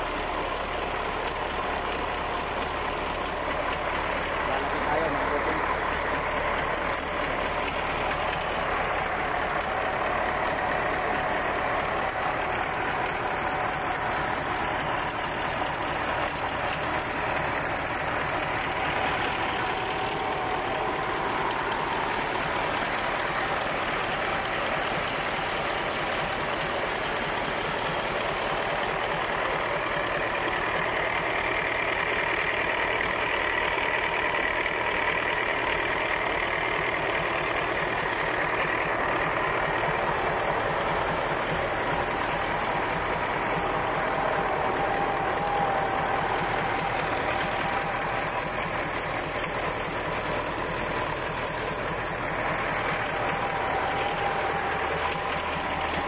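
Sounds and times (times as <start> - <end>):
diesel engine clattering: 0.0 - 56.0.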